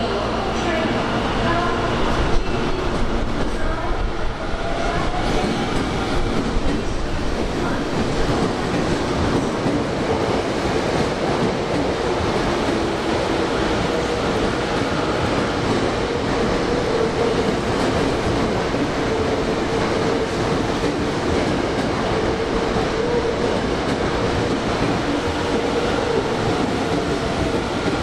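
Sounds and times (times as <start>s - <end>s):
subway train rumbling: 0.0s - 28.0s.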